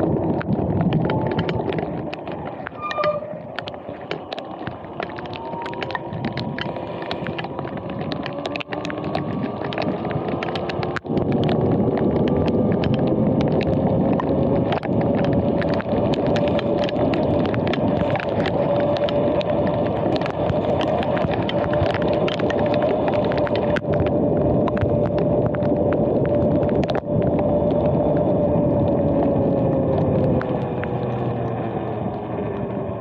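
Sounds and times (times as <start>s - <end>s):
small ticks and clicks: 0.0s - 33.0s.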